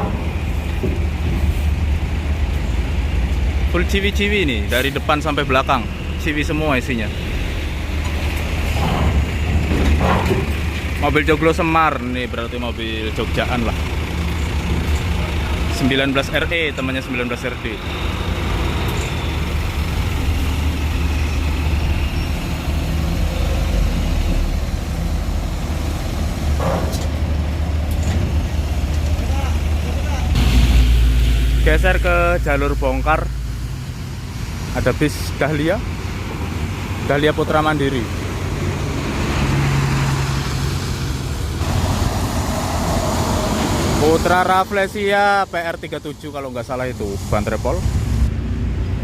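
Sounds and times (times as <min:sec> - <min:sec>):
bus diesel engine rumbling: 0:00.0 - 0:49.0.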